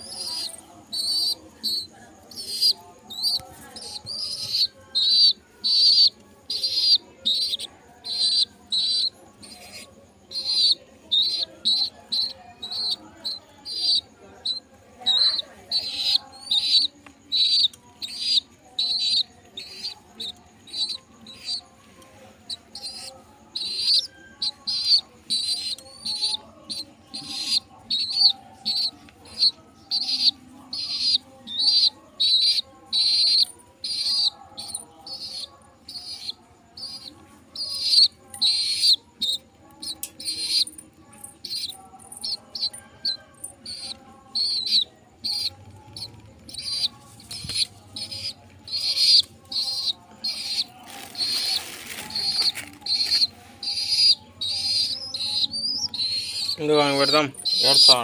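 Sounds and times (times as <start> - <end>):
bird chirping: 0.0 - 21.7, 22.4 - 58.0.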